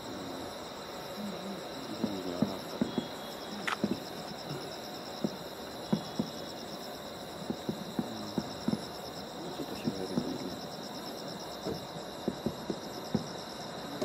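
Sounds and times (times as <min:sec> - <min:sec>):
night insects trilling: 0:00.0 - 0:14.0
distant fireworks booming: 0:01.2 - 0:06.6, 0:07.2 - 0:10.8, 0:11.6 - 0:14.0.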